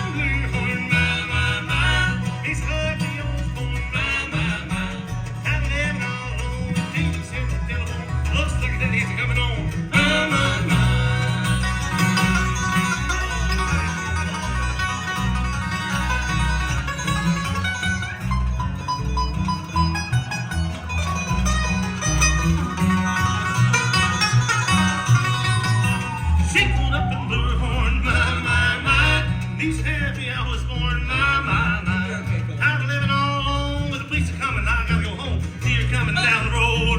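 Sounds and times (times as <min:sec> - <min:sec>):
bluegrass band playing: 0:00.0 - 0:36.9.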